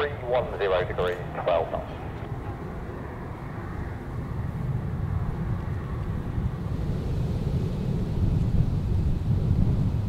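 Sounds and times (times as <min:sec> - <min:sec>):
jet engine rumble: 0:00.0 - 0:10.0
wind buffeting microphone: 0:00.0 - 0:10.0.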